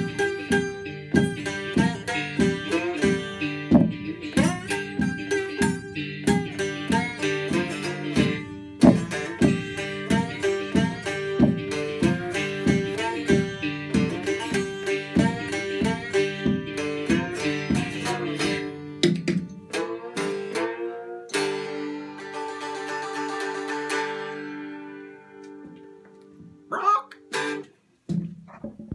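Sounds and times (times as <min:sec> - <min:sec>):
strummed chord ringing: 0:00.0 - 0:26.4
banjo-guitar picking: 0:00.0 - 0:28.9.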